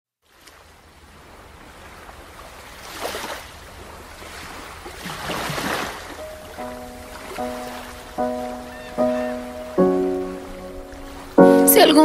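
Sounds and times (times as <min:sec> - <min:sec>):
ocean waves washing in: 0:00.2 - 0:12.0.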